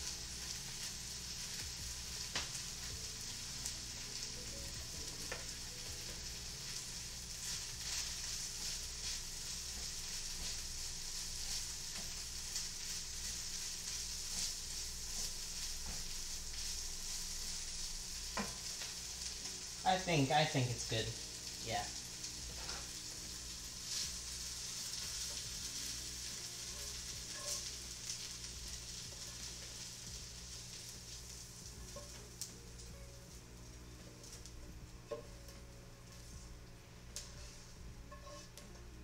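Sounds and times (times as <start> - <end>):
food sizzling in a frying pan: 0.0 - 39.0.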